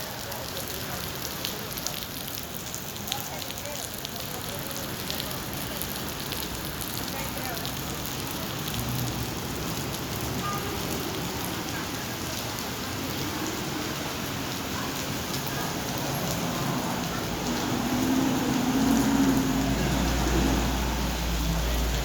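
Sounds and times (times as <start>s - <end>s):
rain falling on ground: 0.0s - 22.0s.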